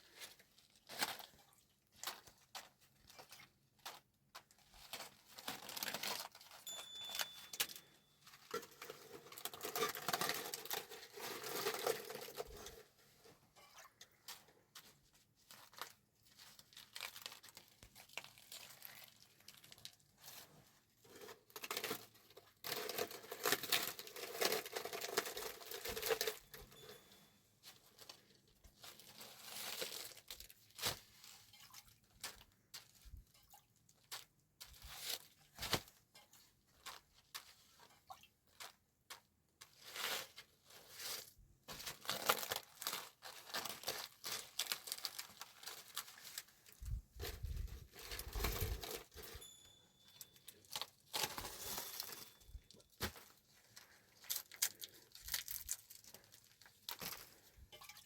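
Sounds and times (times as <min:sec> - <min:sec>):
crinkling rustling handling: 0:00.0 - 0:58.0.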